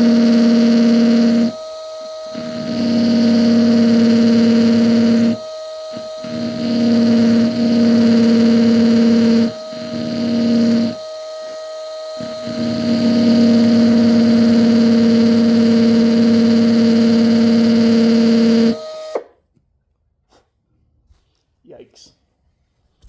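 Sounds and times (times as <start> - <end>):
electric drill drilling glass: 0.0 - 19.4.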